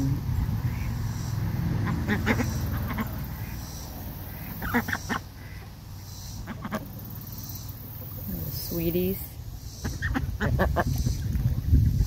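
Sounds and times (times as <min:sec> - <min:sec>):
ducks quacking: 0:00.6 - 0:08.6, 0:09.7 - 0:12.0.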